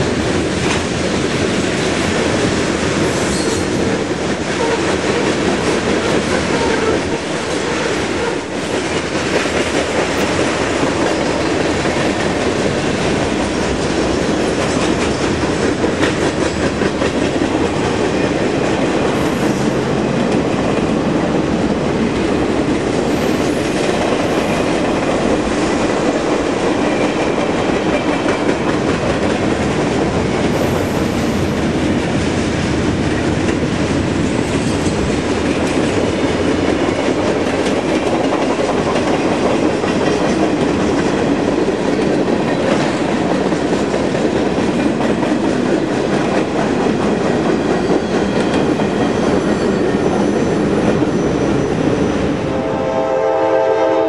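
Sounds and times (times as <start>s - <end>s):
wheels clickety-clack over rail joints: 0.0s - 52.3s
freight train rolling past: 0.0s - 54.0s.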